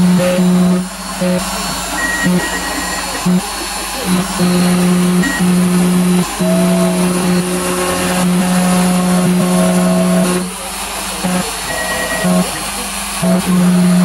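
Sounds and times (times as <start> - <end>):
router spindle hissing: 0.0 - 14.0
stepper motors humming: 0.0 - 14.0.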